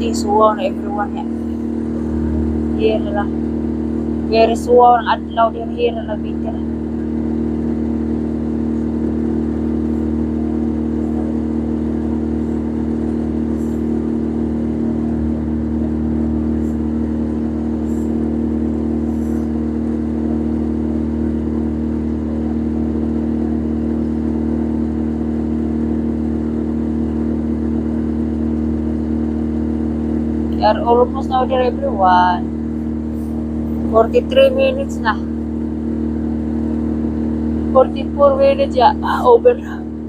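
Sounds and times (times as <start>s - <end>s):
boat engine droning: 0.0s - 40.0s.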